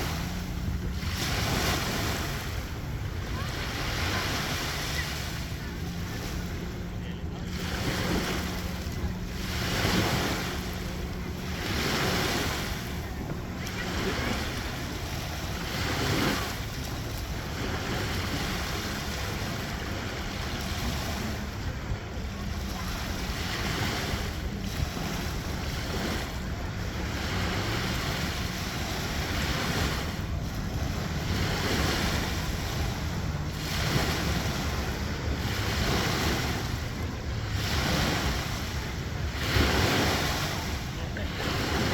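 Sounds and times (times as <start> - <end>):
waves washing in: 0.0 - 41.9
wind buffeting microphone: 0.0 - 41.9.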